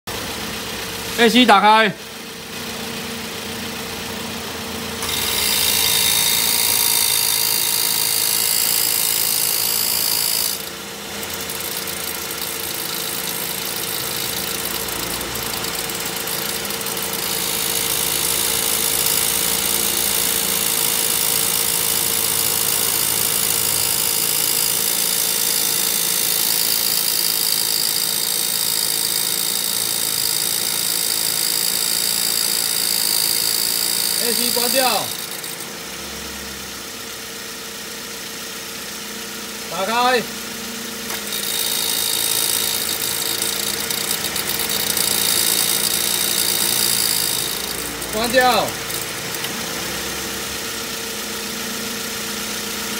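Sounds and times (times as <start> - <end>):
compressor whine: 0.1 - 52.9.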